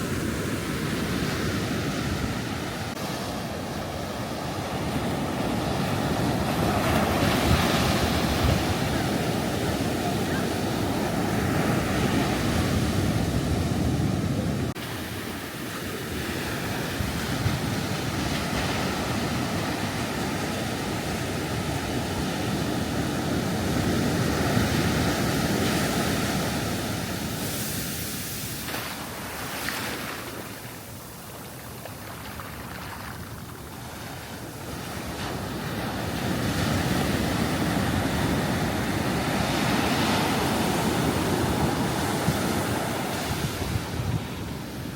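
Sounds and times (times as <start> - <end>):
ocean surf breaking on beach: 0.0 - 44.9.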